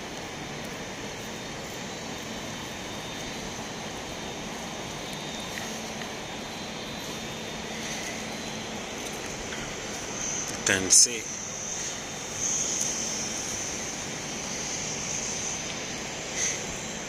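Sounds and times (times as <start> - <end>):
city ambience hiss: 0.0 - 17.0.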